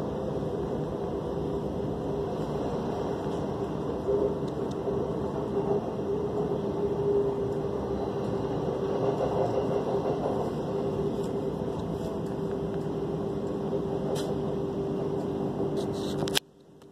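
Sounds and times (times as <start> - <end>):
train wheels rumbling on track: 0.0 - 16.2
constant low hum: 0.0 - 16.9.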